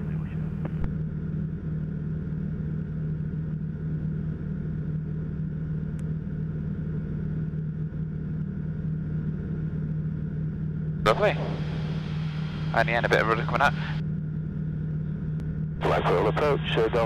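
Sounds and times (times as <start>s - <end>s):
light aircraft engine and propeller drone: 0.0s - 17.0s.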